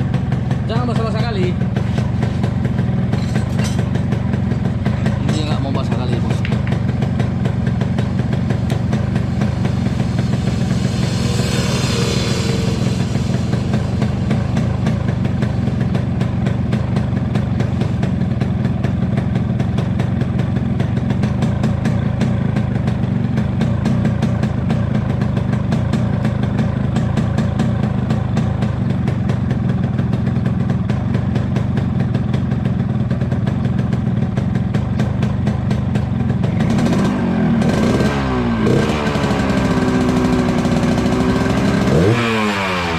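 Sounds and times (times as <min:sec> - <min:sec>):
two-stroke engine idling: 0:00.0 - 0:42.9.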